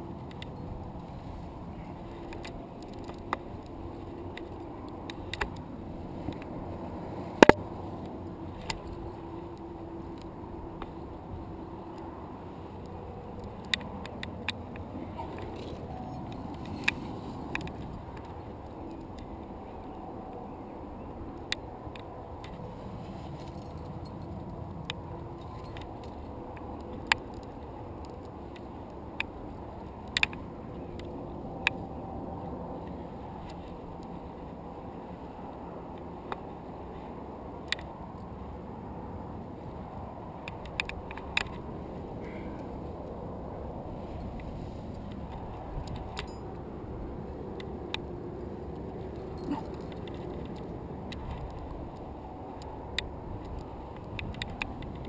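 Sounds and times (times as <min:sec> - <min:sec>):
climbing gear clicking on rock: 0:00.0 - 0:20.0, 0:21.2 - 0:38.6, 0:39.3 - 0:55.0.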